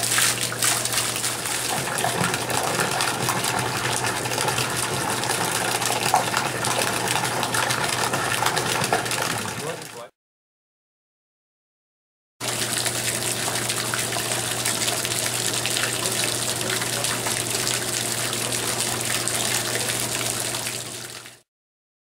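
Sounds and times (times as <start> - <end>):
fountain water splashing: 0.0 - 10.1, 12.4 - 21.4.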